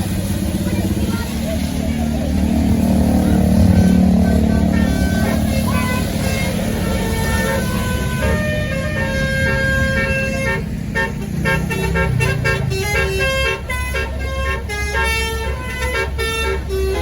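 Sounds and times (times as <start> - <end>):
bus engine rumbling: 0.0 - 17.0
musical bus horn playing a tune: 2.6 - 17.0.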